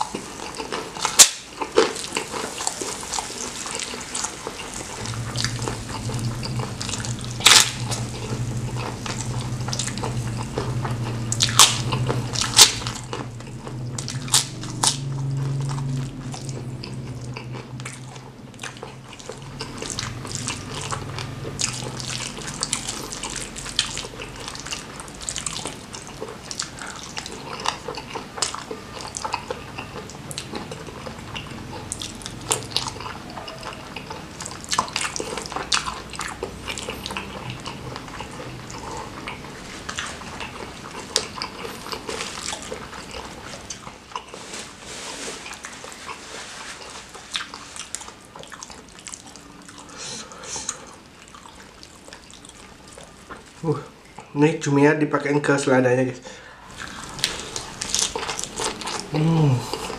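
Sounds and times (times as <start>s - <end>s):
wet chewing and lip smacking: 0.0s - 44.4s, 45.4s - 54.3s, 56.7s - 59.9s
low steady hum: 0.0s - 59.9s.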